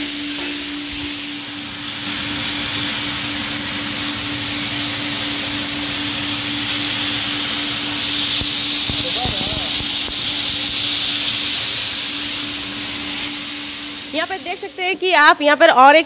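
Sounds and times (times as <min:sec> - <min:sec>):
blower motor hum: 0:00.0 - 0:16.0
puffed rice pouring hiss: 0:01.2 - 0:15.3.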